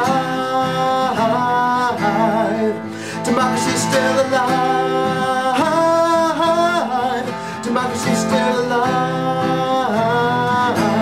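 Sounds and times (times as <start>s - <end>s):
man singing: 0.0s - 11.0s
strummed acoustic guitars: 0.0s - 11.0s.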